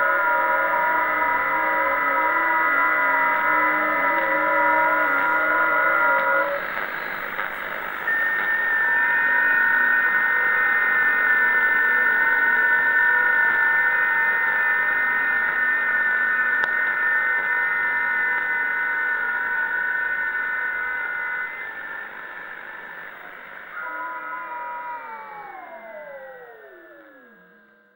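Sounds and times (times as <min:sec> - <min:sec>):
radio hiss: 0:00.0 - 0:25.9
steady whistling radio tones: 0:00.0 - 0:27.9.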